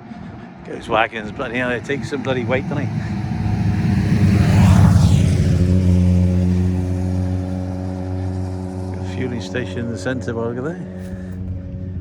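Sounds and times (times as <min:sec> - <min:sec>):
heavy lorry driving past: 0:00.0 - 0:12.0
low engine hum: 0:00.0 - 0:12.0.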